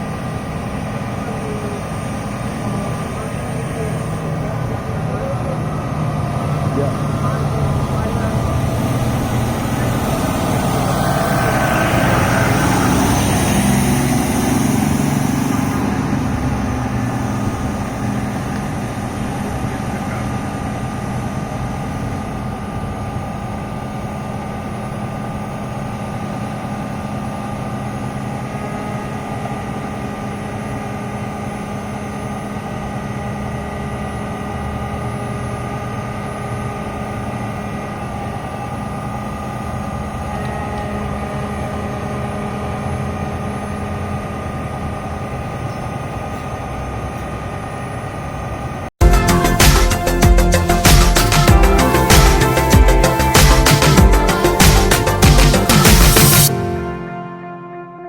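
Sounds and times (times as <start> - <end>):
fire truck diesel engine idling: 0.0 - 57.9
high whine rising in pitch: 0.0 - 58.0.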